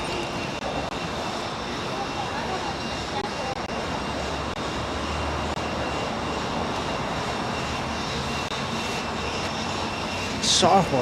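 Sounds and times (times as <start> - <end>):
mechanical drone with low hum: 0.0 - 11.0
thin high whine: 0.0 - 11.0.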